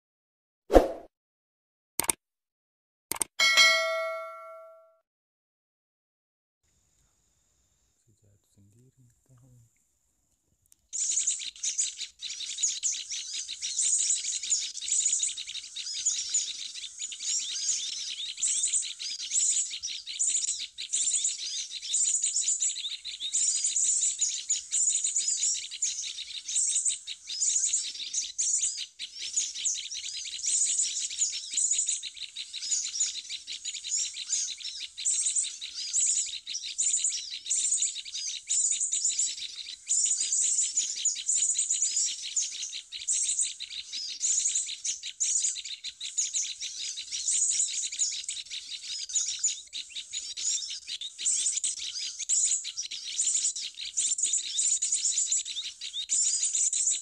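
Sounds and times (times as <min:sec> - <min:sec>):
small birds chirping: 0:10.6 - 0:57.0.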